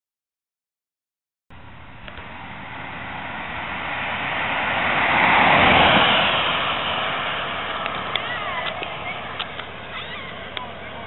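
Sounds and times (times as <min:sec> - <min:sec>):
vehicle passing by: 0:01.6 - 0:11.0.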